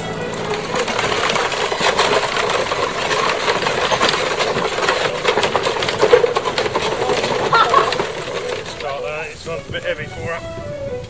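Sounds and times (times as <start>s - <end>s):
cart rattling over gravel: 0.0s - 11.0s.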